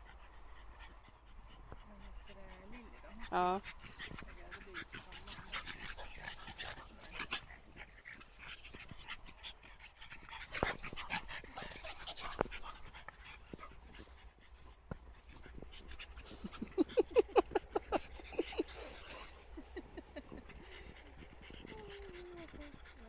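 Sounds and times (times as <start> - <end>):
dogs panting: 0.0 - 23.0.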